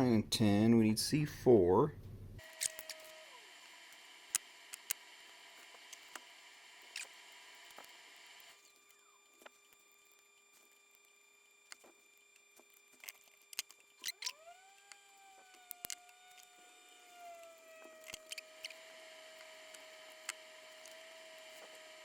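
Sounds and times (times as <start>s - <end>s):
small fan motor whine: 2.3s - 22.0s.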